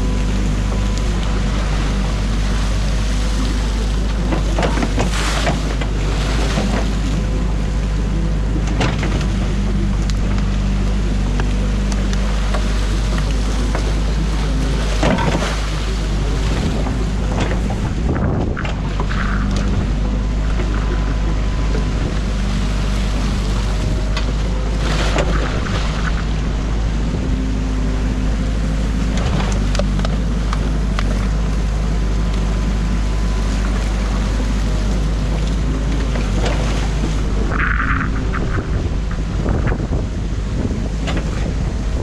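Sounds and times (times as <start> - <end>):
diesel engine running: 0.0 - 42.0
water rushing: 0.0 - 42.0.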